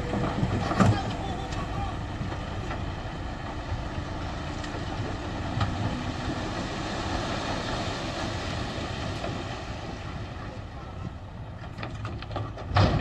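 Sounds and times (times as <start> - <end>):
dump truck engine running: 0.0 - 13.0
soil and rock sliding: 0.0 - 13.0.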